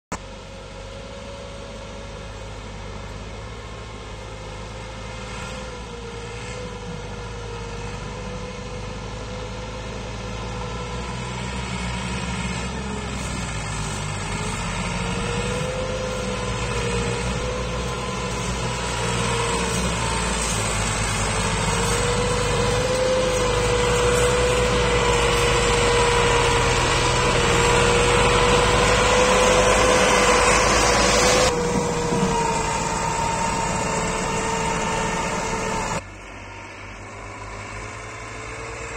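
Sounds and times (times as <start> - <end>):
tractor diesel engine working hard: 0.1 - 38.9
whine over engine: 0.1 - 38.9.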